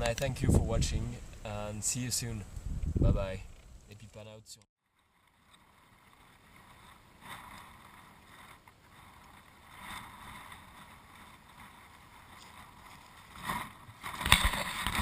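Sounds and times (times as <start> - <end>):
faint outdoor background noise: 0.0 - 14.4.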